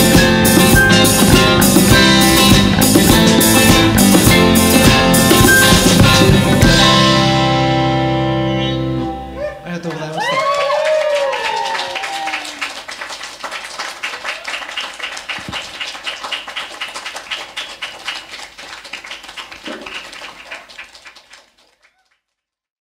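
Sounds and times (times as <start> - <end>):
audience clapping and cheering: 0.0 - 6.6, 9.4 - 22.4.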